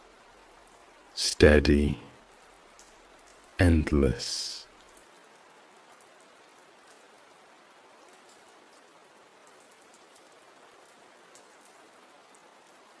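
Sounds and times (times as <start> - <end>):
soft steady rain: 0.0 - 13.0
raindrop ticks: 1.6 - 13.0.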